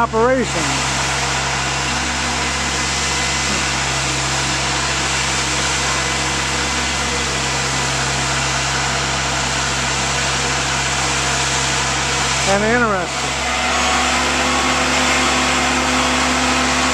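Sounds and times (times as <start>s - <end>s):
boat hoist engine droning: 0.0s - 16.9s.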